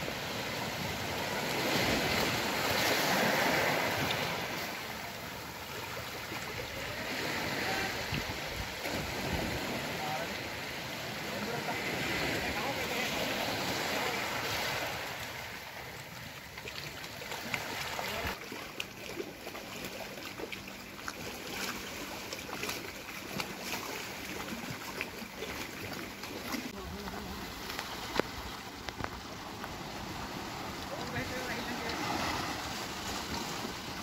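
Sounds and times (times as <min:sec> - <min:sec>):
small waves washing on shore: 0:00.0 - 0:34.0
wind: 0:00.0 - 0:34.0.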